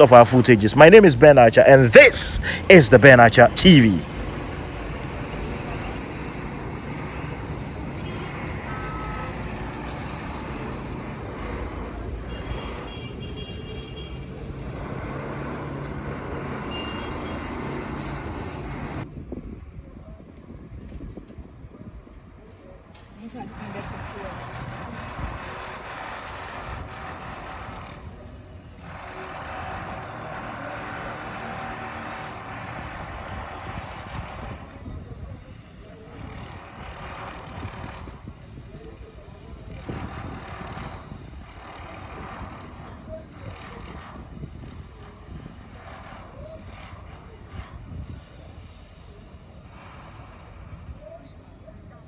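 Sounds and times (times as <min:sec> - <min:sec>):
road traffic noise: 0:00.0 - 0:19.2, 0:23.2 - 0:50.5.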